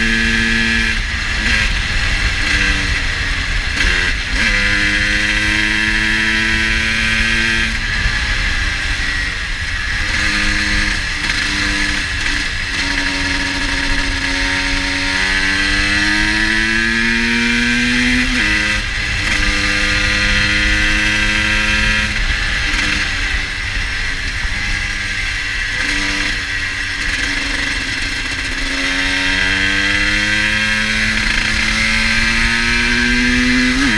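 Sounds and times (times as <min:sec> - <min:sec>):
two-stroke motorcycle engine: 0:00.0 - 0:33.9.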